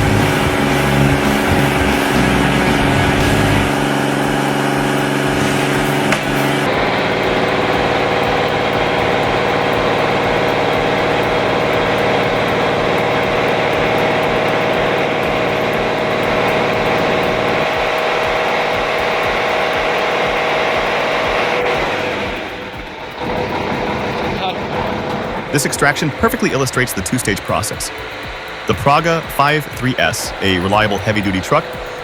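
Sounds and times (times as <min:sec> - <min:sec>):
heavy vehicle engine running: 0:00.0 - 0:32.0
steady whine: 0:00.0 - 0:32.0.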